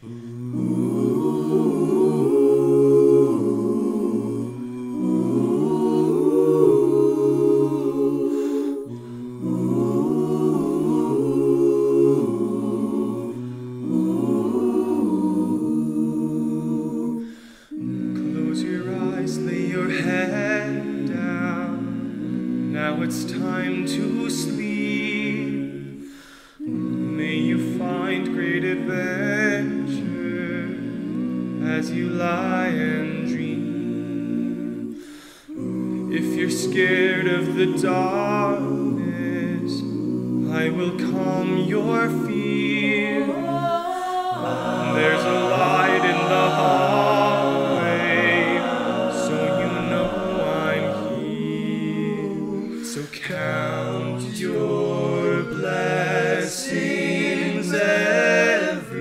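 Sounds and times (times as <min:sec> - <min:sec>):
a cappella ensemble singing chords: 0:00.0 - 0:59.0.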